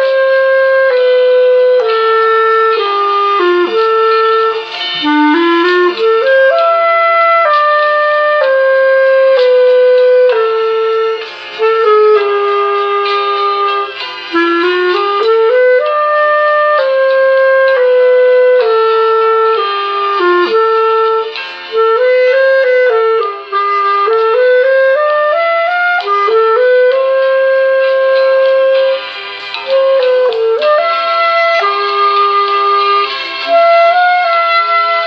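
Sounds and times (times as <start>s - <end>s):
clarinet playing slow melody: 0.0s - 35.0s.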